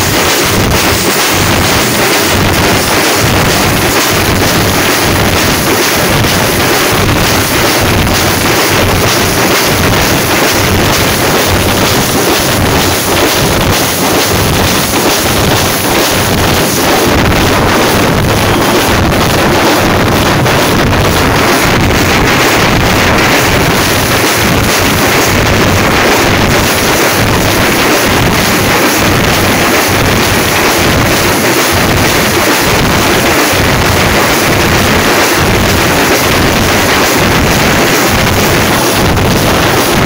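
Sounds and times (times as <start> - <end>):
frame drums beaten fast: 0.0 - 40.0.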